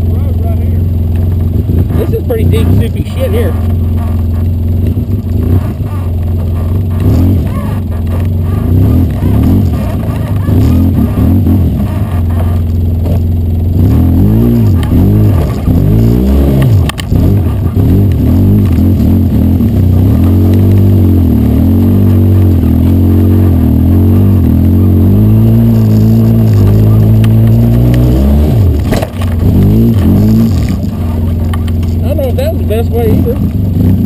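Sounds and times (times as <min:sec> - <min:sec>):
engine revving: 0:00.0 - 0:34.0.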